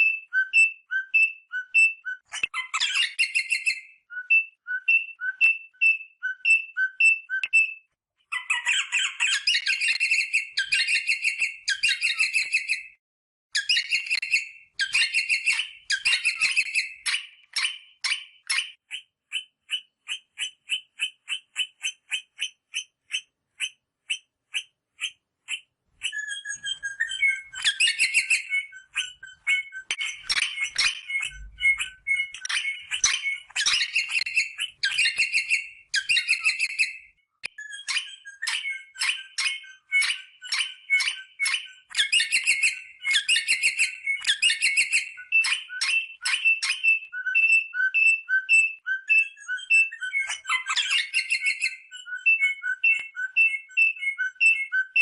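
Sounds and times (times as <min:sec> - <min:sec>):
parrot whistling and chattering: 0:00.0 - 0:12.9, 0:13.6 - 0:55.0.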